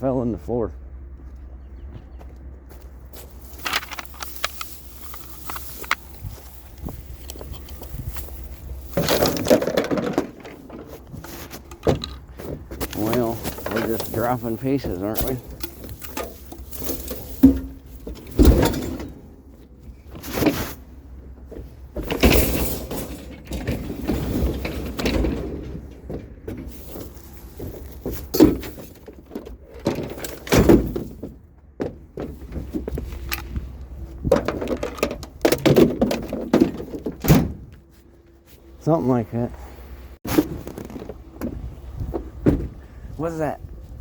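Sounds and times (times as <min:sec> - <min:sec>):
scrap metal clanks and rattles: 0:02.7 - 0:39.0.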